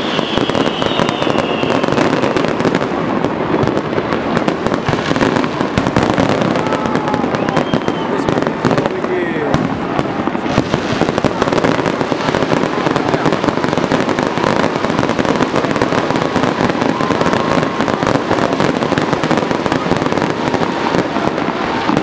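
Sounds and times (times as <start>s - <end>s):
fireworks exploding and crackling: 0.0s - 22.0s.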